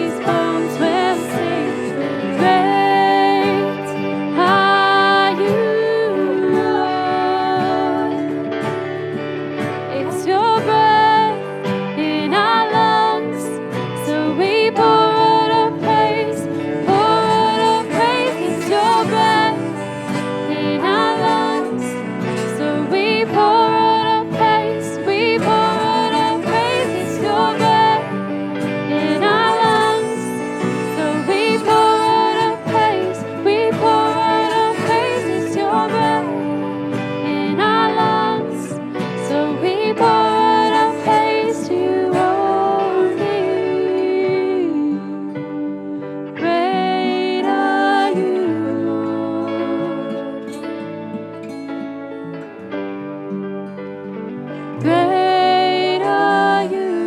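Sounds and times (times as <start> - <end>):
worship band instrumental music: 0.0 - 57.0.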